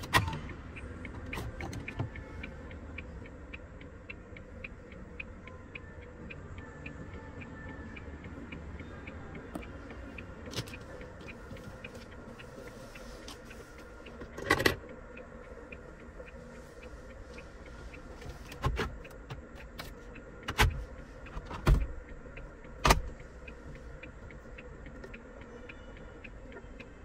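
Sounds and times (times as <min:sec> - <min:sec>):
faint steady background noise: 0:00.0 - 0:27.0.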